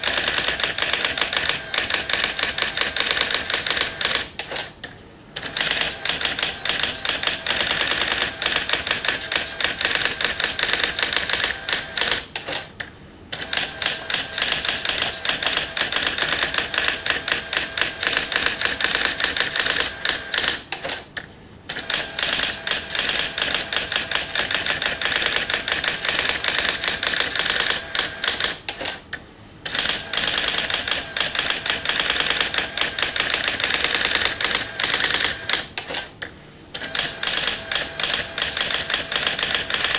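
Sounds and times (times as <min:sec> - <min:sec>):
electronic typewriter printing: 0:00.0 - 0:04.8, 0:05.4 - 0:12.7, 0:13.3 - 0:21.1, 0:21.7 - 0:29.0, 0:29.7 - 0:36.2, 0:36.8 - 0:39.9.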